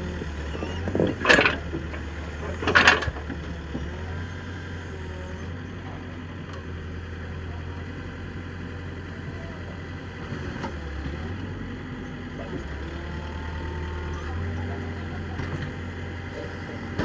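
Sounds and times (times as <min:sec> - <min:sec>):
backhoe diesel engine running: 0:00.0 - 0:17.0.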